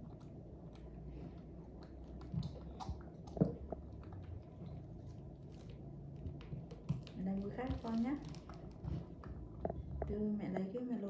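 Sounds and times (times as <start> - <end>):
wet chewing: 0.0 - 10.2.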